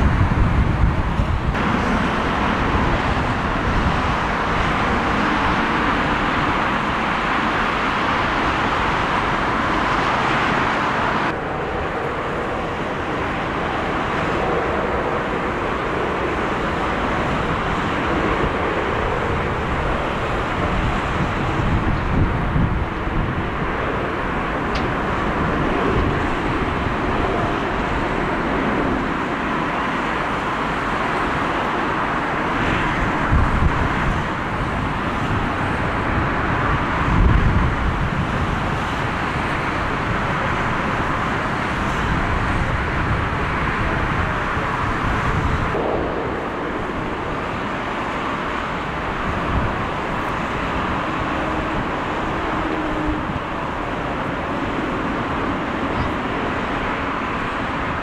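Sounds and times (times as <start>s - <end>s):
jet engines roaring at takeoff: 0.0s - 58.0s
wind gusts on microphone: 0.0s - 58.0s.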